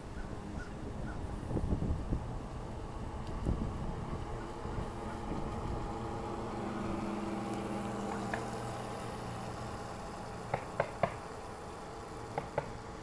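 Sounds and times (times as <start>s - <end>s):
electric motor humming: 0.0s - 13.0s.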